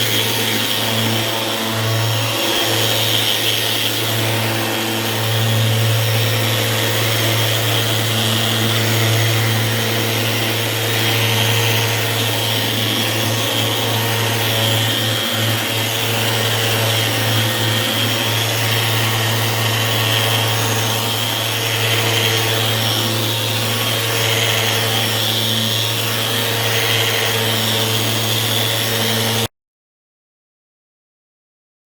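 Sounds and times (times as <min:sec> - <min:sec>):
orbital sander on countertop: 0:00.0 - 0:29.5.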